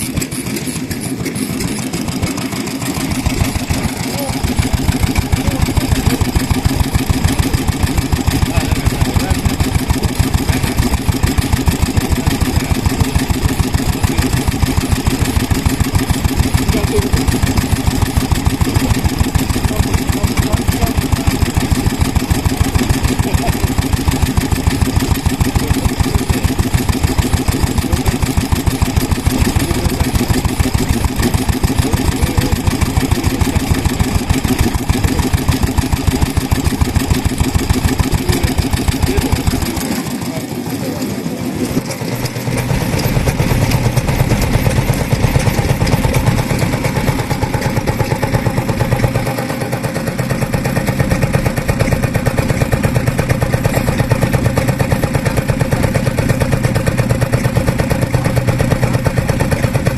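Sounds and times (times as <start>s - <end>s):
stationary engine exhaust beat: 0.0s - 59.9s.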